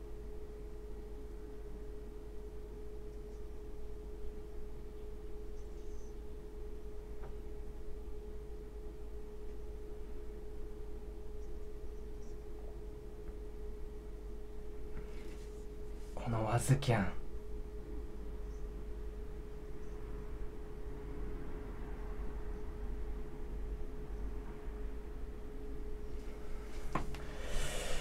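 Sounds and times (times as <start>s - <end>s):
faint low hum: 0.0s - 28.0s
steady pure tone: 0.0s - 28.0s.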